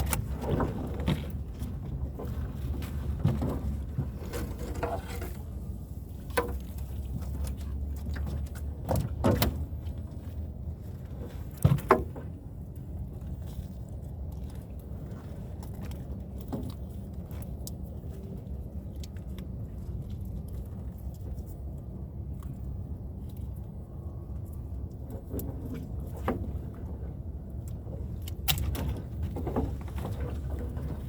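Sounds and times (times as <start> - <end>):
knocks and clatter on a boat: 0.0 - 31.0
steady low rumble: 0.0 - 31.0.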